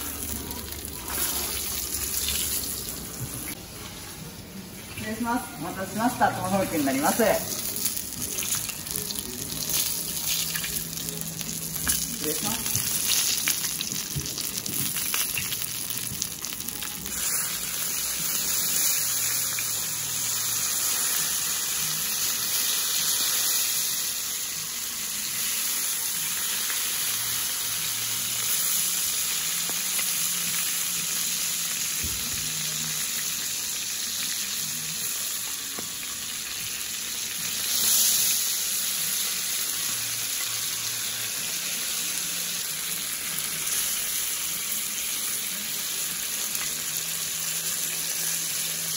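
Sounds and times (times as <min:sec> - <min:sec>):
steak sizzling on a plate: 0:06.0 - 0:48.9.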